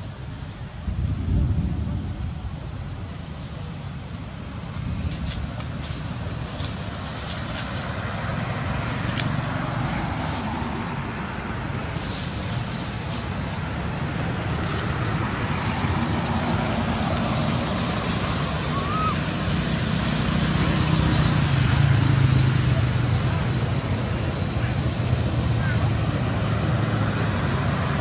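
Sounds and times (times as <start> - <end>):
continuous high-pitched hiss: 0.0 - 28.0.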